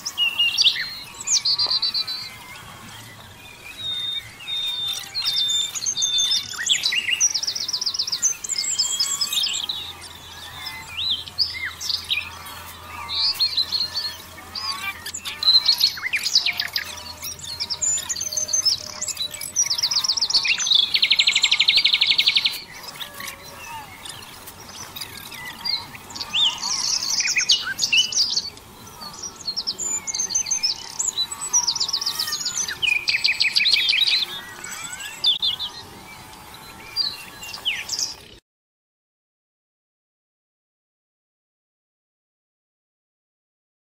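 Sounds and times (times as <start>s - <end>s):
bird trills: 0.0s - 38.2s
birds chirping: 0.0s - 38.4s.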